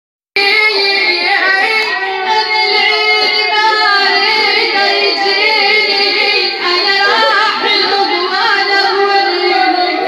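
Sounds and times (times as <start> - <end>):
woman chanting a lament: 0.4 - 10.0.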